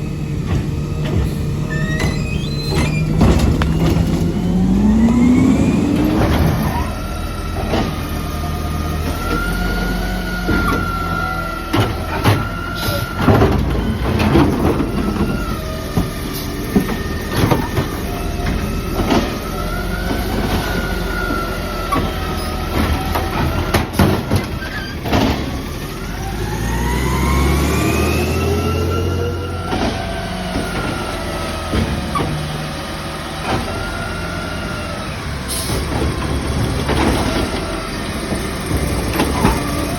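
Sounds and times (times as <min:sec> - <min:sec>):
garbage truck whine: 0:00.0 - 0:39.9
bins banging and clattering: 0:00.3 - 0:26.9, 0:27.8 - 0:39.9.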